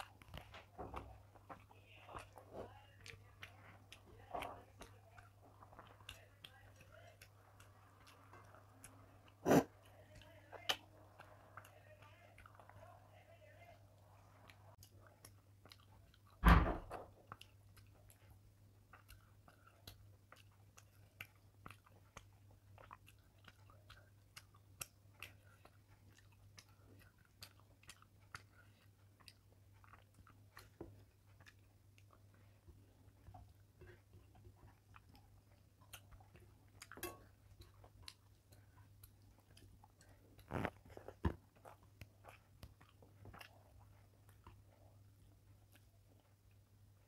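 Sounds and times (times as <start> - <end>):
fingers squishing food on plate: 0.0 - 47.0
soft chewing and mouth sounds: 0.0 - 47.0.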